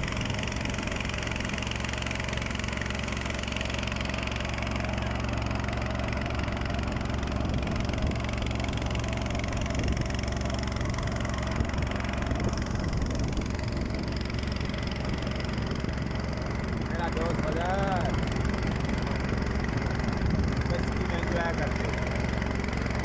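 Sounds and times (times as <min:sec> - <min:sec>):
engine idling hum: 0:00.0 - 0:23.0.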